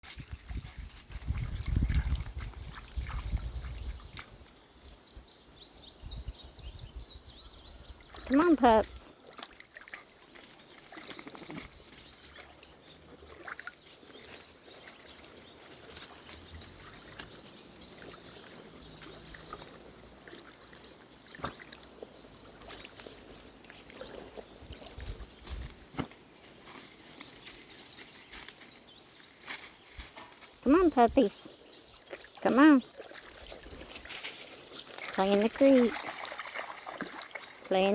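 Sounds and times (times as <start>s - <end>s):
water splashing and sloshing: 0.0s - 4.7s, 8.0s - 37.9s
creek water trickling: 0.0s - 37.9s.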